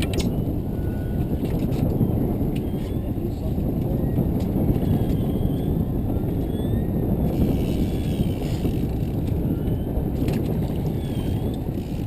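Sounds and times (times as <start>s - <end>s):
boat motor rumble: 0.0s - 12.0s
wind on microphone: 0.0s - 12.0s.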